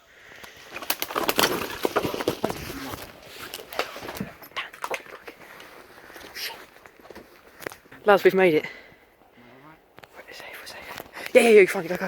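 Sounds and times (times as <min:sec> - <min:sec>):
people climbing and scrambling: 0:00.2 - 0:12.0.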